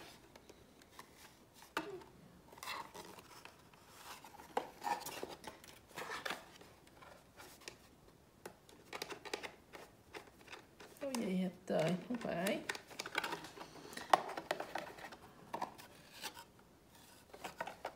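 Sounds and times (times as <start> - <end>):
soft rustles of handling: 0.0 - 17.9.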